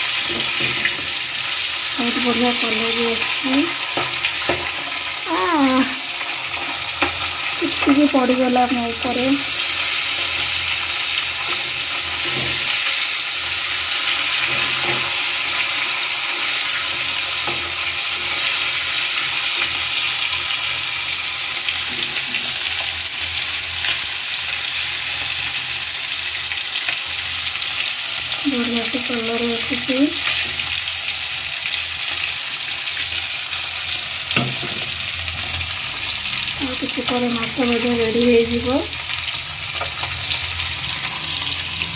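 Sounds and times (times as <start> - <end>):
fish sizzling in hot oil: 0.0 - 41.9.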